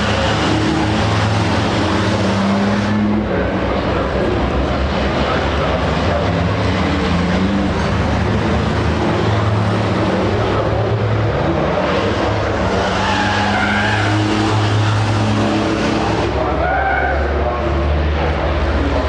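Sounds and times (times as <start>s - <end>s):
truck engines running hard: 0.0s - 19.0s.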